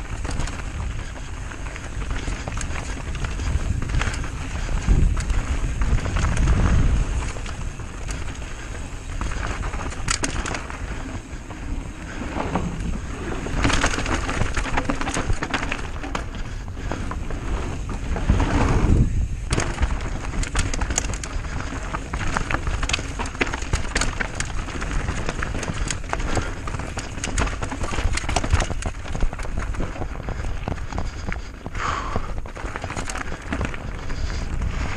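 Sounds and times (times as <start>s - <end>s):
bike rattling and clicking: 0.0s - 34.9s
tyres rumbling over dirt and stones: 0.0s - 34.9s.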